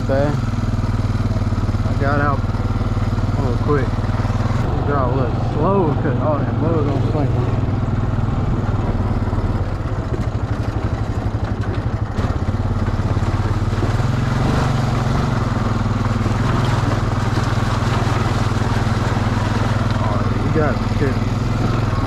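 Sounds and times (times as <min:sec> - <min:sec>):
off-road bike engine running: 0:00.0 - 0:22.0.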